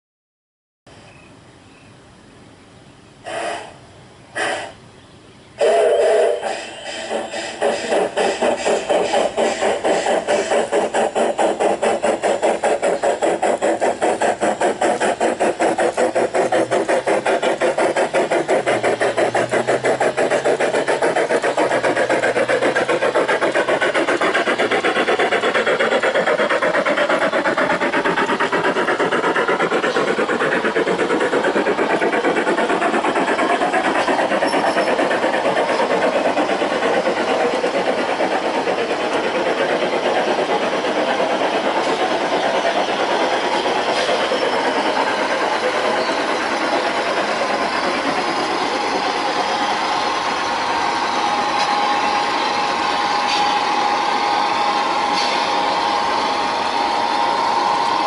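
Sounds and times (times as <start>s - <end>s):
model train wheels clattering: 5.6s - 56.2s.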